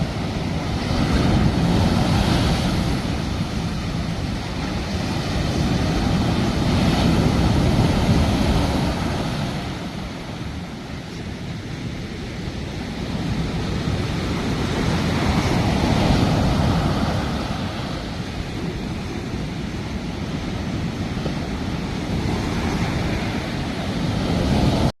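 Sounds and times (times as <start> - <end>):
sea waves washing ashore: 0.0 - 24.9
wind on microphone: 0.0 - 24.9.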